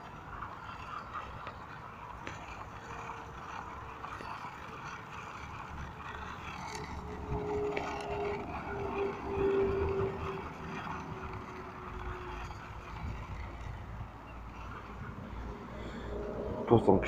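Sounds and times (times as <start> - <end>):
tape measure reel turning: 0.0 - 15.4.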